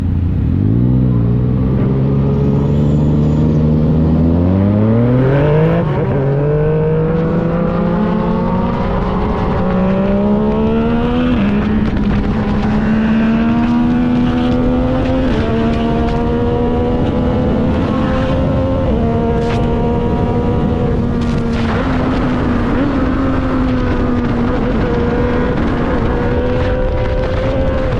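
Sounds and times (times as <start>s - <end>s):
motorcycle engine accelerating: 0.0s - 27.9s
wind rush: 0.0s - 27.9s.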